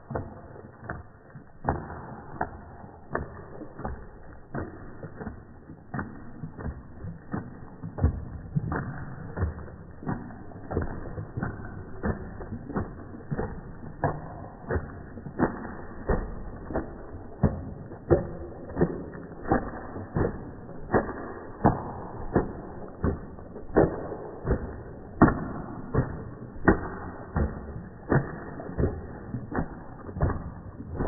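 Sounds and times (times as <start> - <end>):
dog shaking with skin slaps: 0.0 - 31.0.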